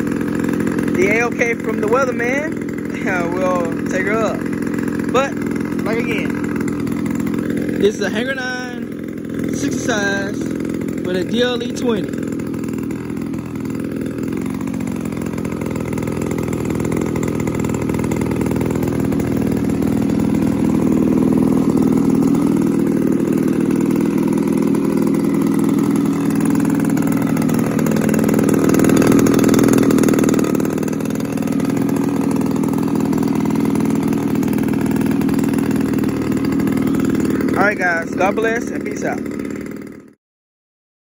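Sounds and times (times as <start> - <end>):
model plane engine running: 0.0 - 40.2.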